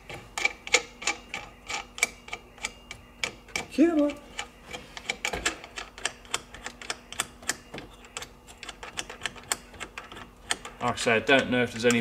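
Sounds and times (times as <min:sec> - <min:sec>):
small metal parts clicking: 0:00.4 - 0:11.0.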